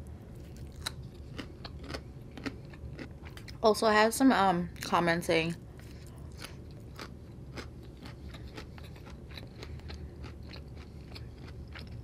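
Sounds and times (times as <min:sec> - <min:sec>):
low steady hum: 0:00.0 - 0:12.0
person chewing food: 0:00.2 - 0:03.6, 0:05.7 - 0:12.0.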